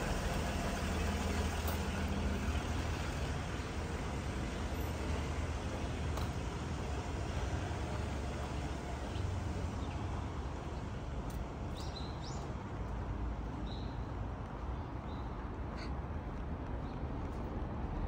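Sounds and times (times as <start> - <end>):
city street traffic hum: 0.0 - 18.0.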